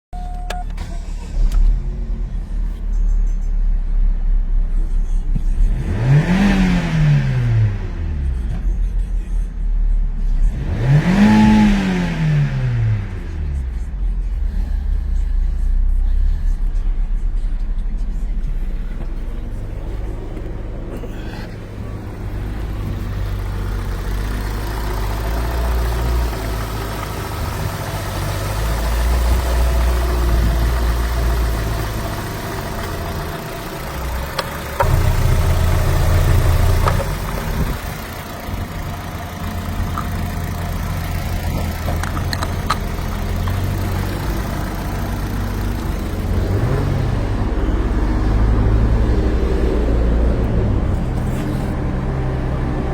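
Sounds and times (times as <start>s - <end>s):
car engine idling: 0.1s - 52.9s.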